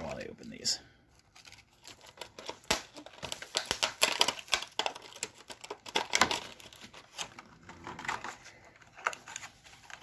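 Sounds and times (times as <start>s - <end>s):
plastic packaging crinkling: 1.2s - 10.0s.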